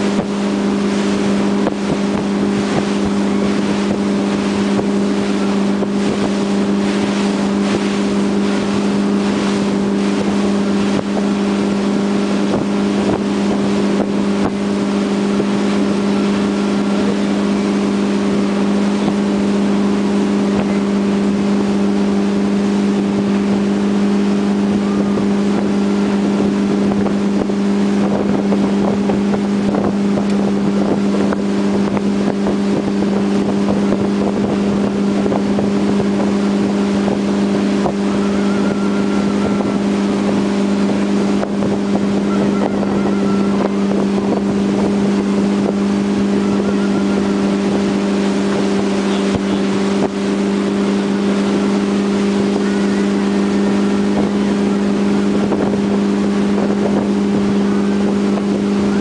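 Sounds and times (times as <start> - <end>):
boat engine droning: 0.0 - 59.0
water rushing: 0.0 - 59.0.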